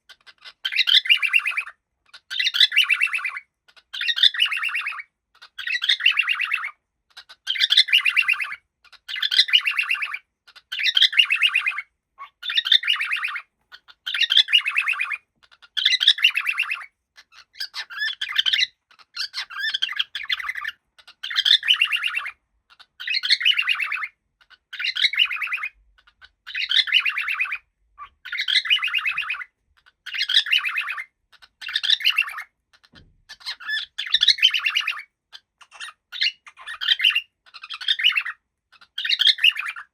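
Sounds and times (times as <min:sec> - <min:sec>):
cockatiel chirping: 0:00.0 - 0:39.9.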